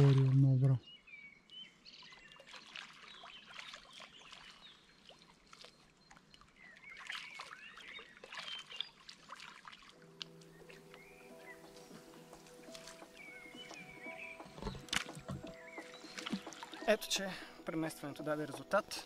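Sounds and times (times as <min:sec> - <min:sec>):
water sloshing and dripping: 0:00.0 - 0:00.7, 0:01.5 - 0:19.0
bird chirps: 0:00.7 - 0:09.0, 0:10.4 - 0:18.6.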